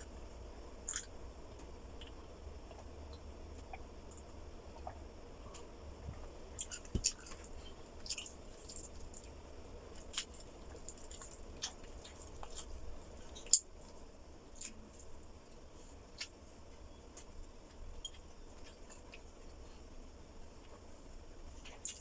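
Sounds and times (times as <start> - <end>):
person chewing food: 0.8 - 2.9, 3.6 - 19.9.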